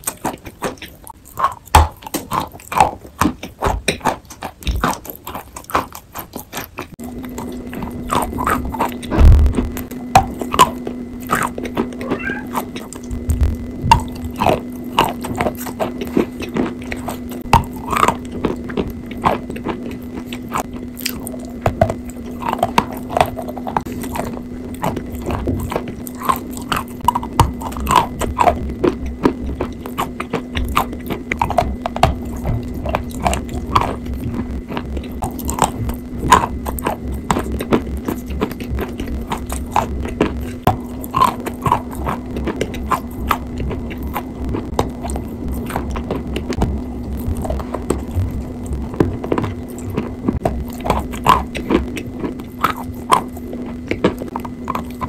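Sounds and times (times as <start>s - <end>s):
wet mouth sounds: 0.0s - 55.0s
low hum: 6.9s - 55.0s.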